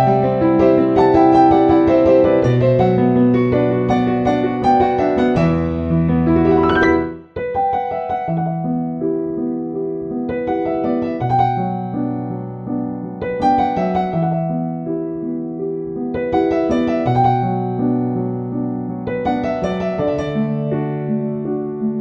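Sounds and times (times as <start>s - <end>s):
calm piano music: 0.0s - 22.0s.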